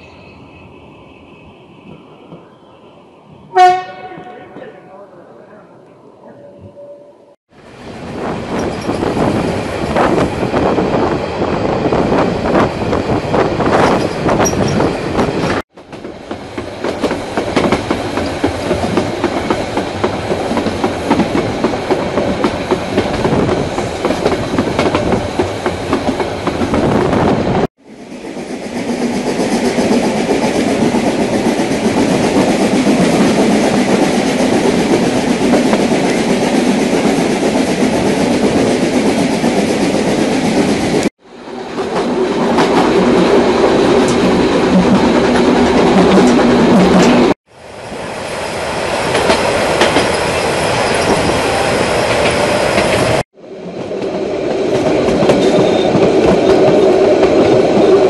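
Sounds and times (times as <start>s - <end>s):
rumble of train coaches: 0.0s - 58.0s.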